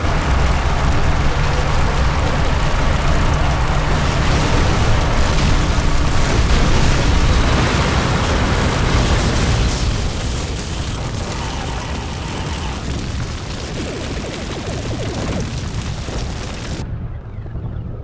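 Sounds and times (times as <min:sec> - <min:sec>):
spacecraft rumble: 0:00.0 - 0:18.0.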